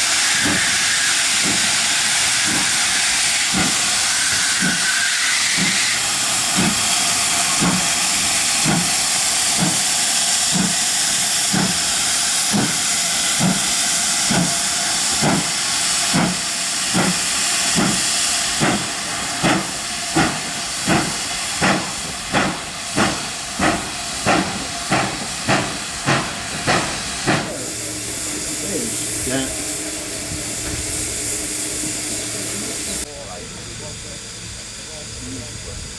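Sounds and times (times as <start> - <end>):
steam hissing: 0.0 - 35.9
steam locomotive chuffing: 0.0 - 35.9.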